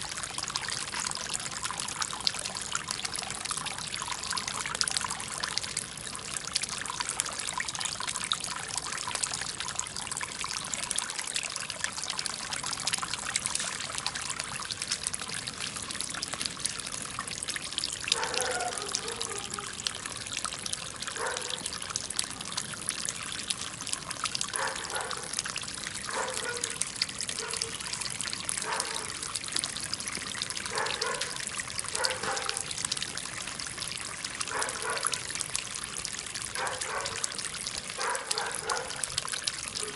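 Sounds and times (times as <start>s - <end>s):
fountain water trickling and splashing: 0.0s - 39.9s.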